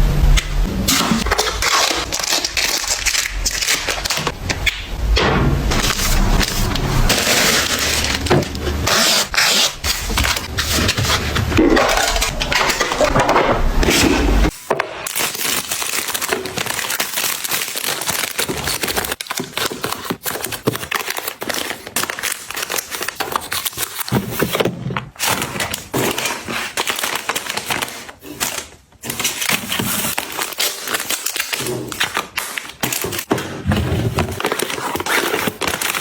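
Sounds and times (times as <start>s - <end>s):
plastic packaging crinkling: 0.7s - 5.0s, 5.7s - 13.2s, 14.0s - 36.0s.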